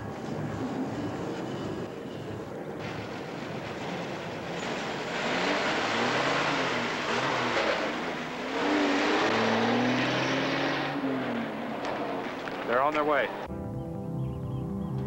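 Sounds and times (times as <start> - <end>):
truck engine accelerating: 0.0 - 13.5
road noise: 0.0 - 15.0.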